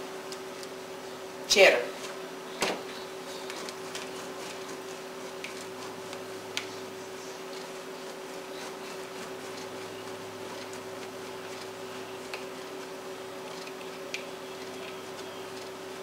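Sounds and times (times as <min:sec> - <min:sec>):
steady background hum: 0:00.0 - 0:16.0
cheese grating scrapes: 0:03.0 - 0:16.0.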